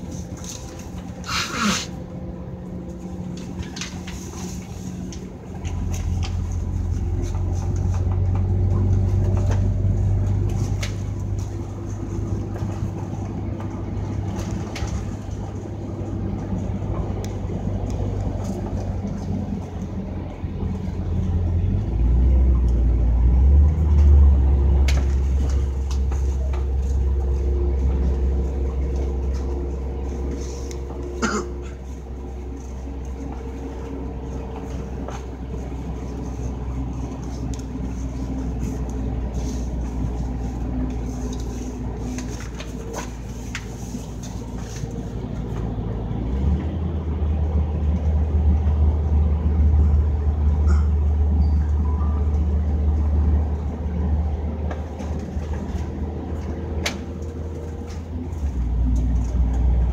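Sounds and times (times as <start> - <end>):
bus diesel engine drone: 0.0 - 59.9.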